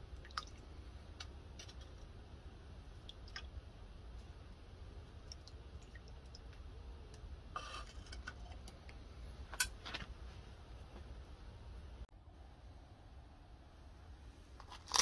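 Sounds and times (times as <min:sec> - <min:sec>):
low steady rumble: 0:00.0 - 0:14.9.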